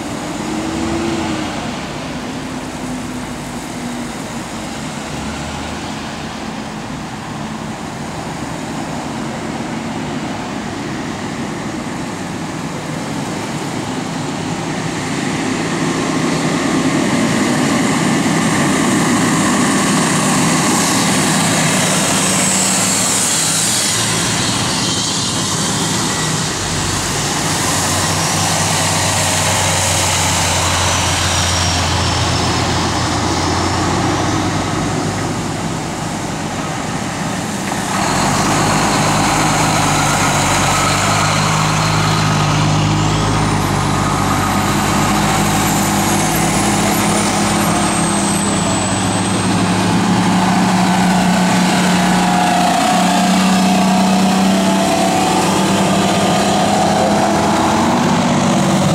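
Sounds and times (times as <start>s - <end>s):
fire engine driving past: 0.0s - 58.9s
vehicles driving past: 0.0s - 58.9s.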